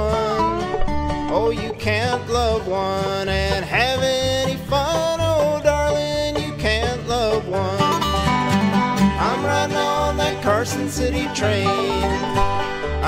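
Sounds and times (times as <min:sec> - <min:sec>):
bluegrass music with banjo and guitar: 0:00.0 - 0:13.0.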